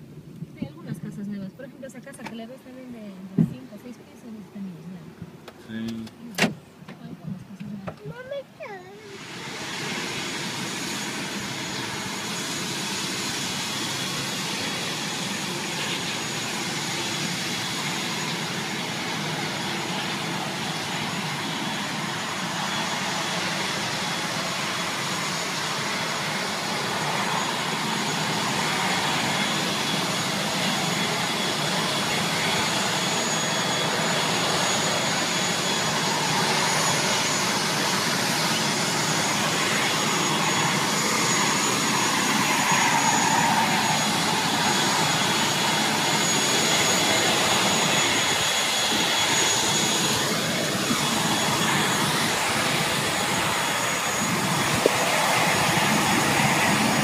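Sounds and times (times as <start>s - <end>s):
turboprop engine running: 0.0s - 57.0s.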